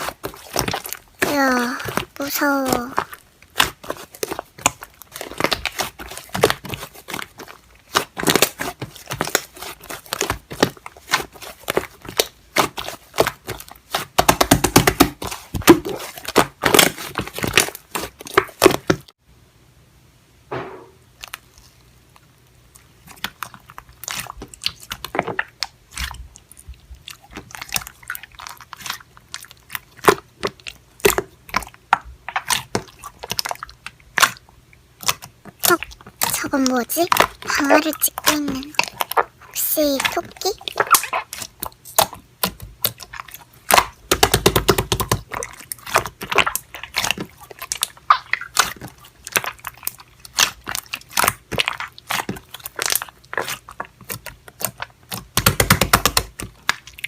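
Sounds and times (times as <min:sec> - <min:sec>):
slime squeezed crackling: 0:00.0 - 0:19.1, 0:21.2 - 0:57.0.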